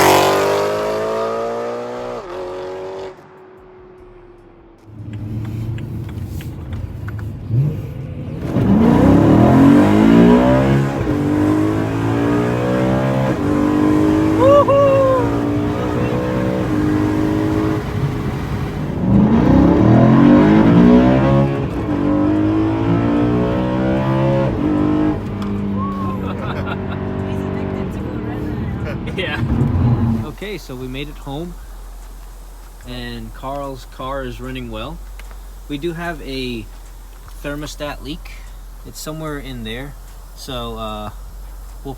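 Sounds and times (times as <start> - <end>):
car engine accelerating: 0.0 - 41.9
engine cruising rumble: 0.0 - 41.9.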